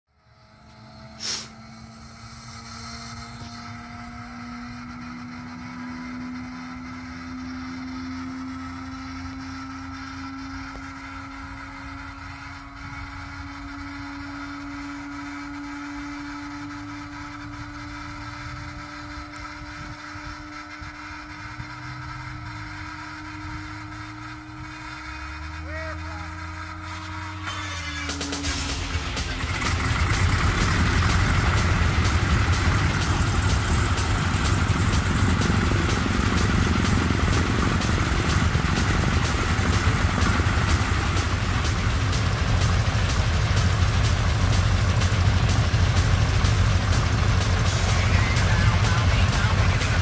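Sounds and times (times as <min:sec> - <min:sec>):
radial engine idling: 0:00.2 - 0:50.0.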